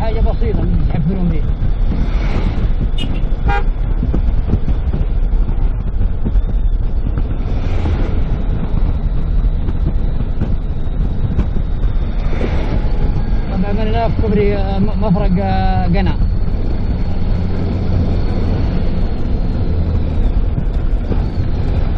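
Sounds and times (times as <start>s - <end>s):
car interior road rumble: 0.0s - 21.9s.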